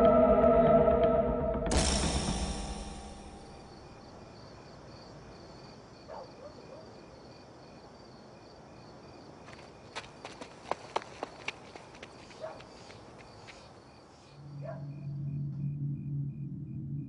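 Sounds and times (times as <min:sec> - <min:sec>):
crickets chirping: 0:01.8 - 0:17.0.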